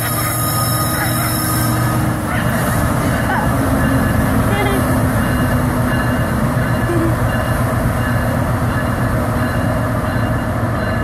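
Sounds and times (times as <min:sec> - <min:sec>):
diesel locomotive rumbling: 0:00.0 - 0:11.0.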